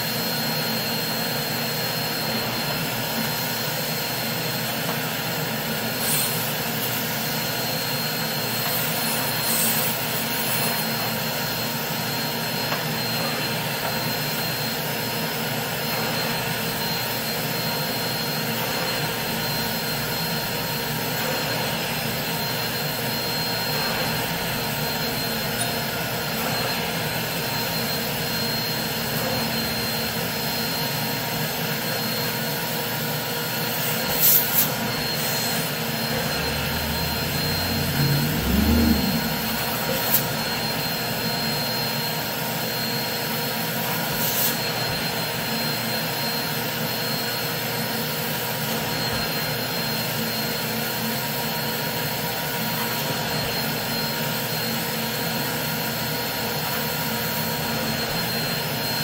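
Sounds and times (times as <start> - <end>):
carpet extraction vacuum whining: 0.0 - 59.0.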